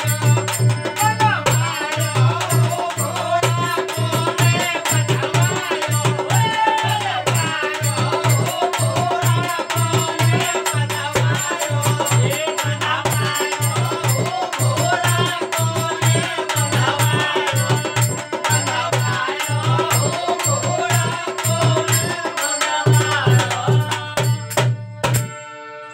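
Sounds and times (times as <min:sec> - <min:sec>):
men singing: 0:00.0 - 0:24.7
harmonium: 0:00.0 - 0:25.9.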